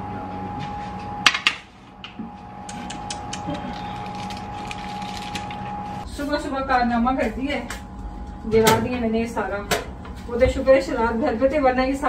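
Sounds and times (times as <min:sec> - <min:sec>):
oven high hum: 0:00.0 - 0:12.0.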